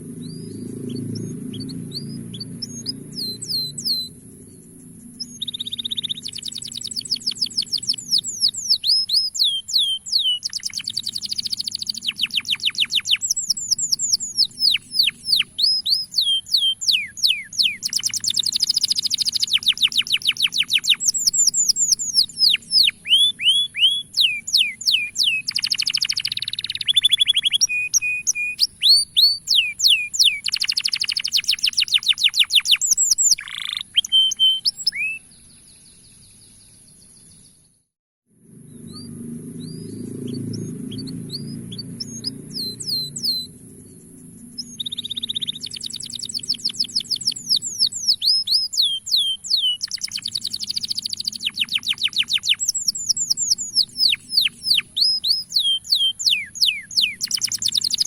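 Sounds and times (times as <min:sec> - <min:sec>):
canary singing: 0:00.0 - 0:36.4, 0:38.7 - 0:58.0.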